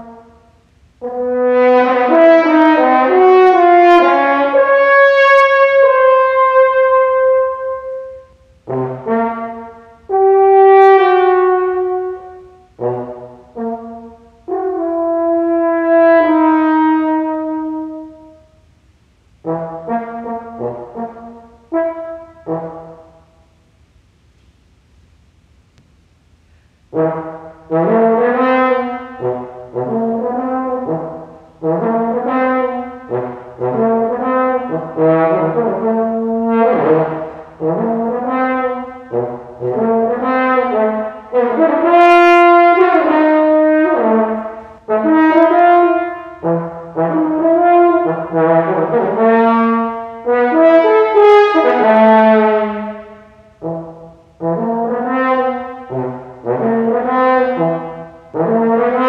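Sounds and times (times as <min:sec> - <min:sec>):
french horn melody: 0:00.0 - 0:23.6, 0:26.8 - 0:59.0.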